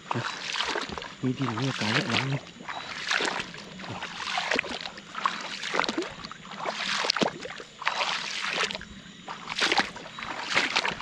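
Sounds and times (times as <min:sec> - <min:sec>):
footsteps wading through water: 0:00.0 - 0:11.0.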